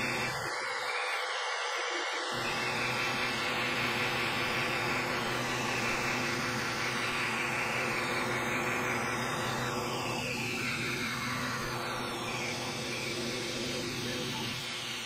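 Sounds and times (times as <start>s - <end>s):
laser engraver whirring: 0.0s - 15.0s.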